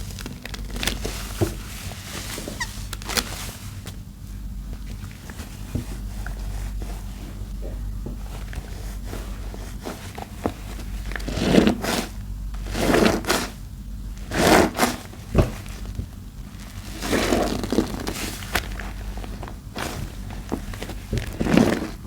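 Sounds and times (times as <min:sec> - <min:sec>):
sponge squishing in soap paste: 0:00.0 - 0:03.9, 0:04.8 - 0:22.0
steady low hum: 0:00.0 - 0:22.0.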